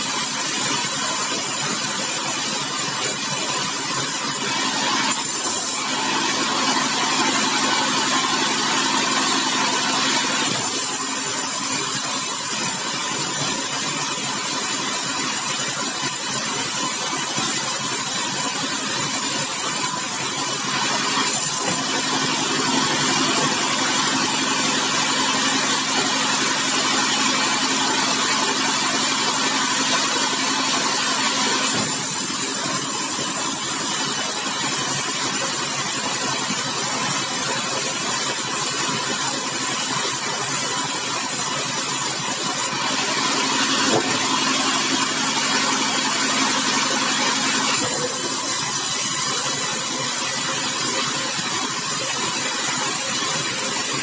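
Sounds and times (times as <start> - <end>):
sawmill machinery cutting logs: 0.0 - 54.0.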